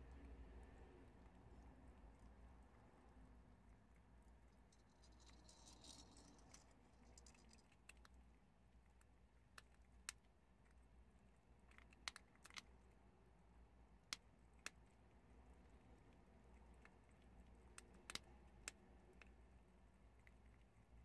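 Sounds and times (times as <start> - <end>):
animals crunching dried chickpeas: 0.1 - 13.2, 13.9 - 21.0.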